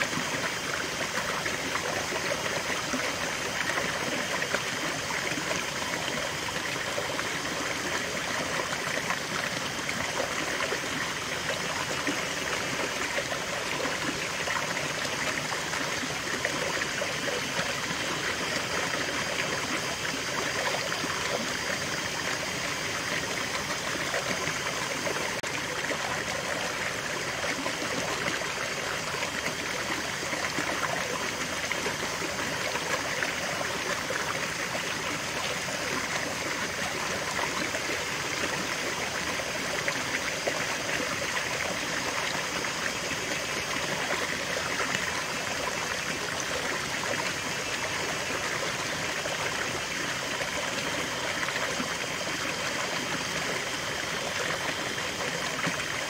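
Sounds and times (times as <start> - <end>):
stream running over rocks: 0.0 - 56.0
water splashing into a pool: 0.0 - 56.0.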